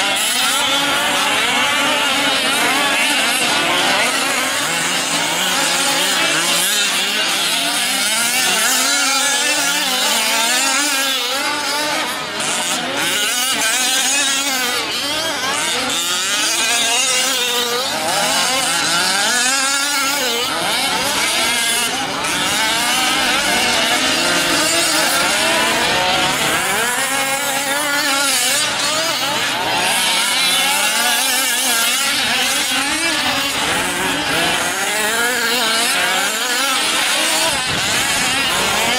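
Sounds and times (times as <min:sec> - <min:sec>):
rc truck engines revving: 0:00.0 - 0:38.9.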